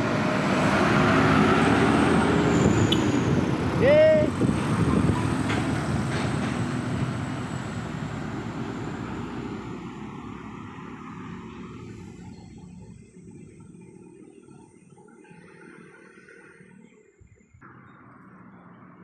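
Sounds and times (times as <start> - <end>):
large vehicle engine passing: 0.0 - 19.0
road noise: 0.0 - 19.0.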